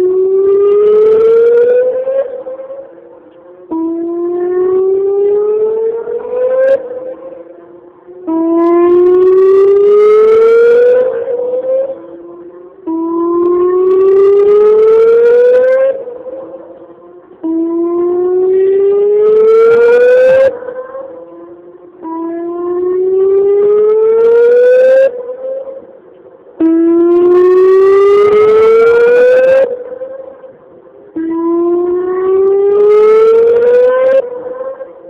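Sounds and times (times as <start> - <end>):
warning siren whoop tone: 0.0 - 26.0, 26.6 - 35.0.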